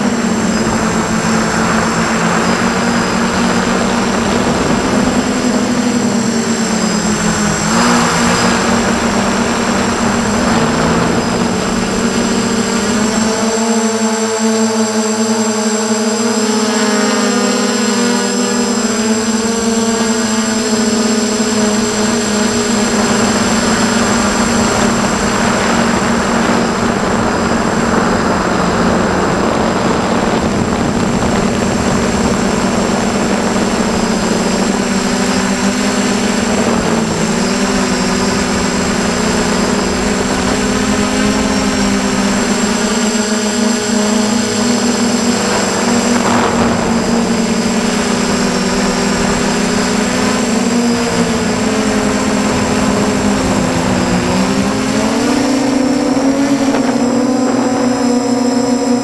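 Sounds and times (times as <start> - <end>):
quadcopter motors buzzing: 0.0 - 59.0.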